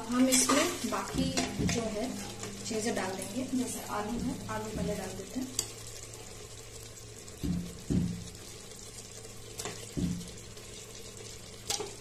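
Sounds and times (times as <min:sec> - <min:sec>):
curry sizzling: 0:00.0 - 0:12.0.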